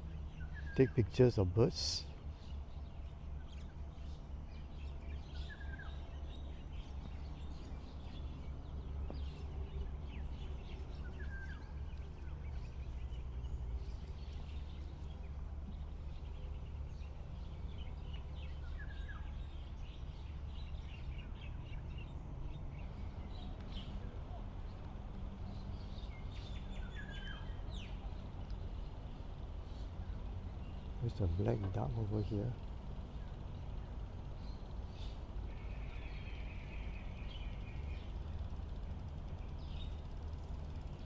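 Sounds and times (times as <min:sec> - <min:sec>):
birds chirping: 0:00.0 - 0:41.0
steady low rumble: 0:00.0 - 0:41.0.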